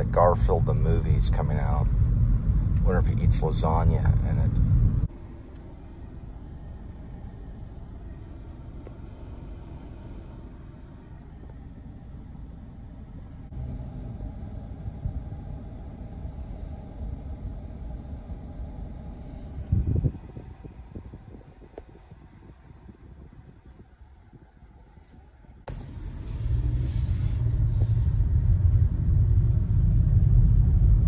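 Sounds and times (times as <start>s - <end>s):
car cabin rumble idling: 0.0s - 31.0s.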